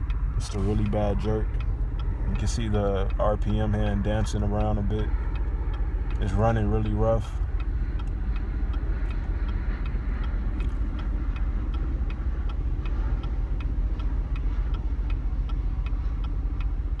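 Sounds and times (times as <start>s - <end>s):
car engine idling rough: 0.0s - 17.0s
hazard flasher relay ticking: 0.0s - 17.0s.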